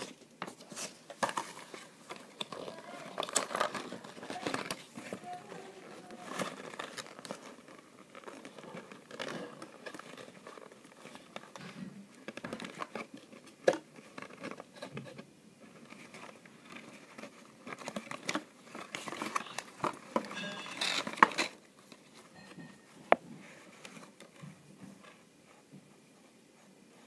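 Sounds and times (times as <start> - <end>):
headphones handled in cardboard box: 0.0 - 25.7.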